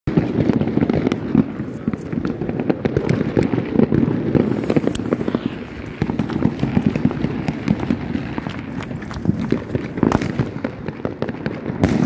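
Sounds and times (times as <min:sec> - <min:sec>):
fireworks crackling and popping: 0:00.1 - 0:12.0.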